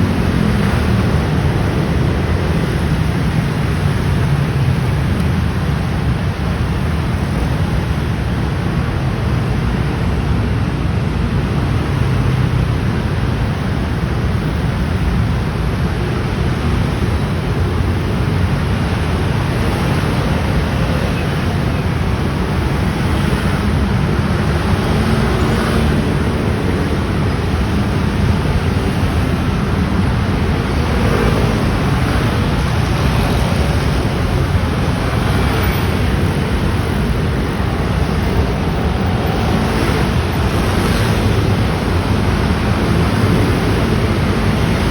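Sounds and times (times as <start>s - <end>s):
scooters and motorcycles passing: 0.0s - 7.8s, 11.5s - 44.9s.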